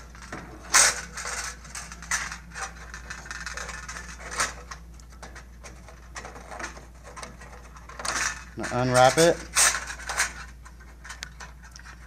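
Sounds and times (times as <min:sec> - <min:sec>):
wire scraping and rattling on frame: 0:00.0 - 0:12.0.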